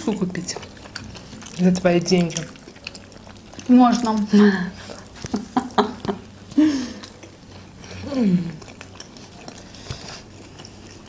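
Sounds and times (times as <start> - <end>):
people chewing: 0.0 - 11.0.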